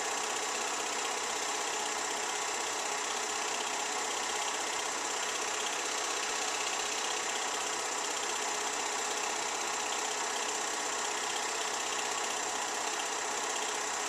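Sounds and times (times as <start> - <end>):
film projector whirring and clattering: 0.0 - 14.0.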